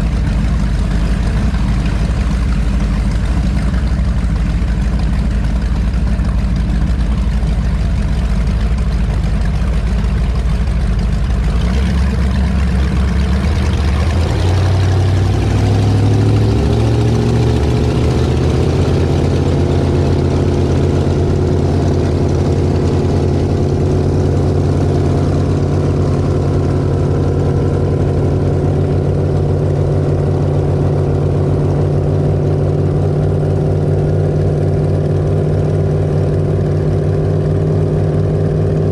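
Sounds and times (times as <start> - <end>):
powerboat engines running: 0.0 - 38.9.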